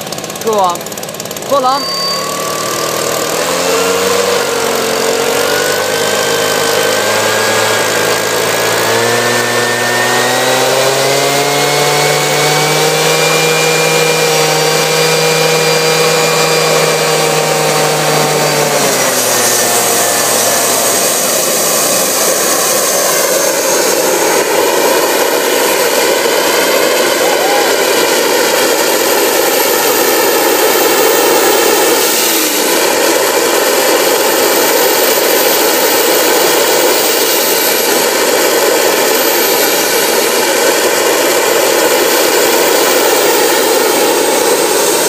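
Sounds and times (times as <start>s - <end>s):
turbine whine: 0.0s - 45.0s
jet engine rushing noise: 1.9s - 45.0s.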